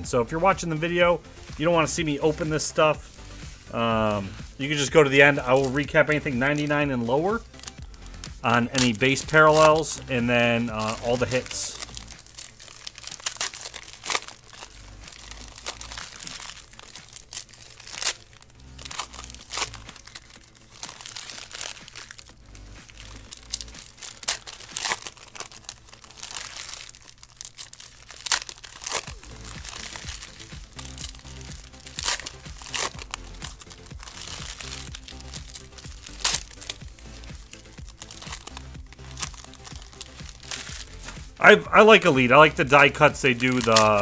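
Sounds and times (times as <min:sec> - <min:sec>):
background music: 0:00.0 - 0:44.0
foil wrappers crinkling and tearing: 0:00.1 - 0:44.0.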